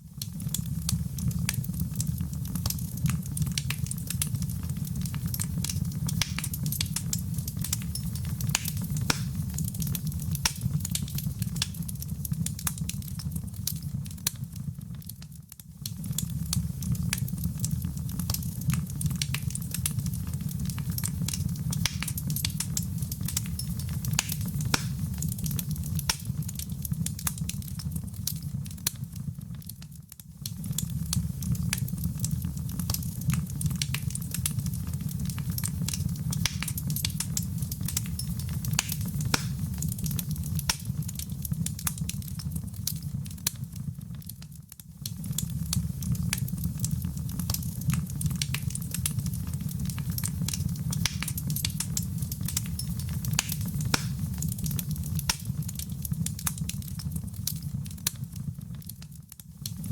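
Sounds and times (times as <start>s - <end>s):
low rumble of fire: 0.0s - 59.9s
wood fire crackling and popping: 0.0s - 59.9s.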